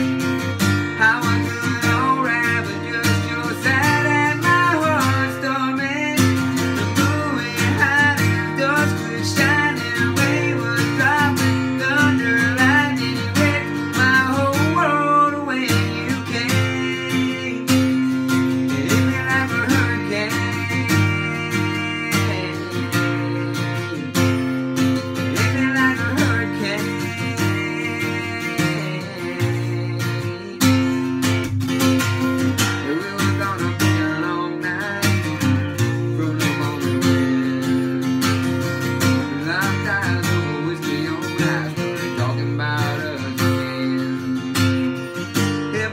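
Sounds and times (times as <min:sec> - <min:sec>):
acoustic guitar strummed: 0:00.0 - 0:45.9
man singing: 0:00.0 - 0:45.9.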